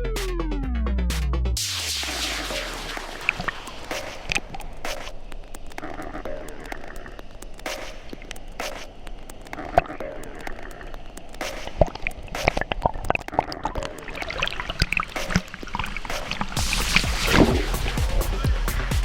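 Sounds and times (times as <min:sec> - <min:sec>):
water splashing and dripping: 0:01.6 - 0:18.3.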